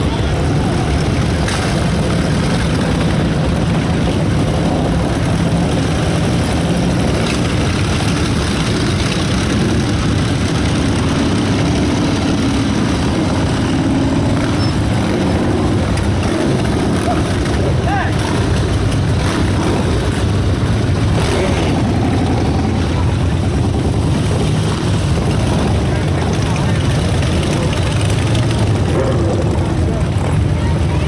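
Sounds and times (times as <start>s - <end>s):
motorcycle and vehicle engines droning: 0.0s - 31.0s.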